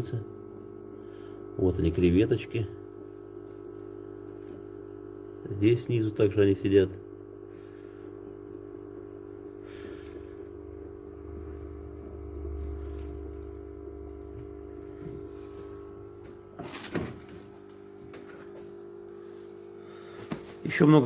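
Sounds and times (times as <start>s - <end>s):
aquarium filter humming: 0.0s - 21.0s.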